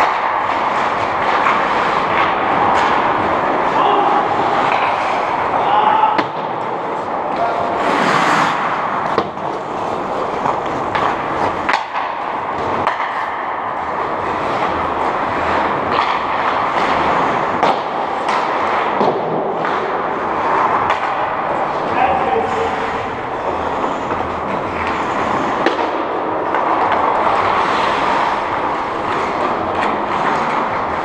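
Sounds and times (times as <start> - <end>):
hockey sticks and puck clacking: 0.0 - 31.0
skate blades scraping on ice: 0.0 - 31.0.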